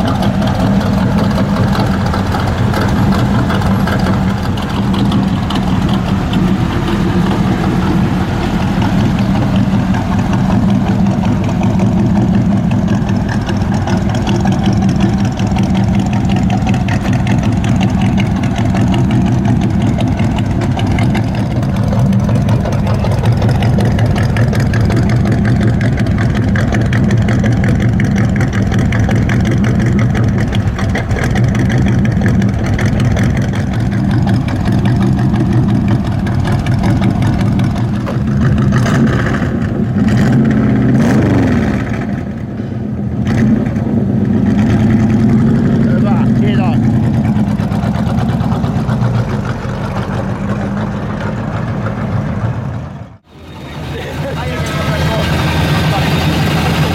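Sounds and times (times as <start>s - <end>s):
vee eight engine idling loudly: 0.0s - 56.9s.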